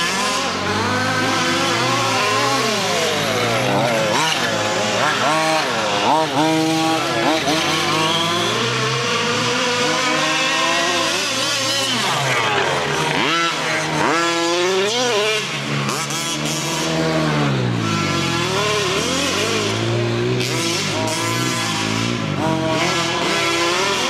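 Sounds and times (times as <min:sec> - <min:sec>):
small two-stroke engine revving: 0:00.0 - 0:24.0.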